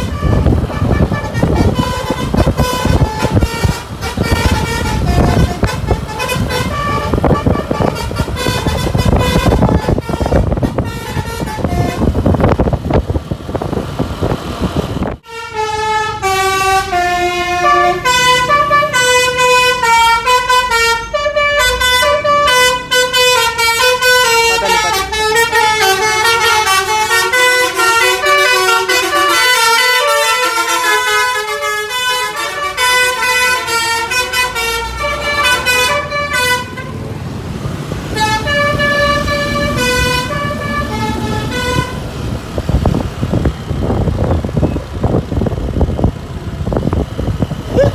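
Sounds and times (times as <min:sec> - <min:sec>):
multi-tone air horn melody: 0:00.0 - 0:12.6, 0:15.2 - 0:37.1, 0:38.1 - 0:42.3
road and engine noise: 0:00.0 - 0:47.9.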